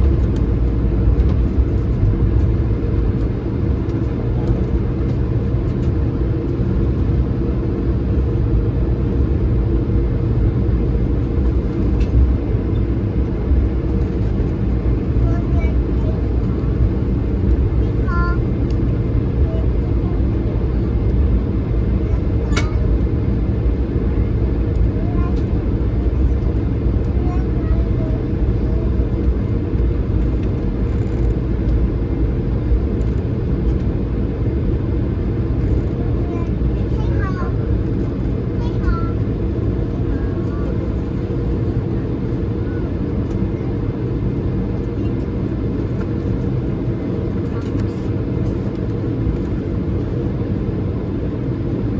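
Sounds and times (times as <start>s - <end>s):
aircraft engines rumbling: 0.0s - 51.9s.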